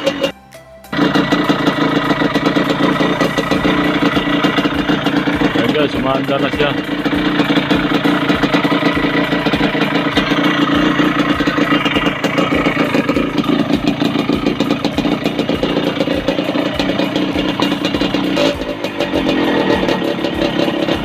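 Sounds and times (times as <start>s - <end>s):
two-stroke engine running: 0.0s - 21.0s.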